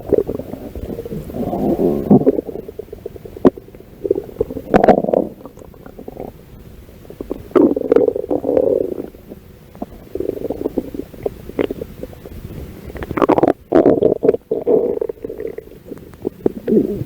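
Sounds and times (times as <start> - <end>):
stomach growling: 0.0 - 6.4, 7.1 - 12.3, 12.9 - 17.0.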